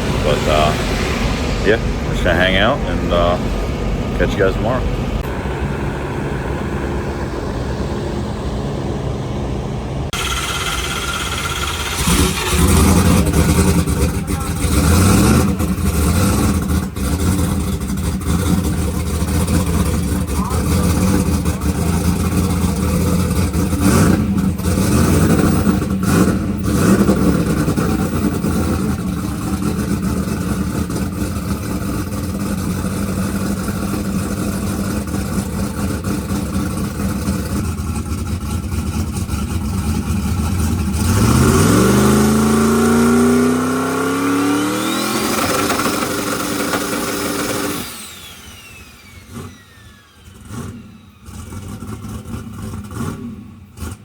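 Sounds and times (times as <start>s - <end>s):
drag racing engine rumbling: 0.0s - 54.0s.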